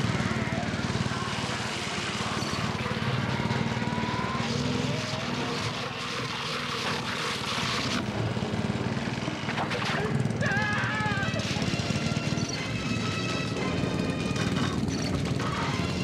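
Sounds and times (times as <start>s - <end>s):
lawnmower engine running: 0.0s - 16.0s.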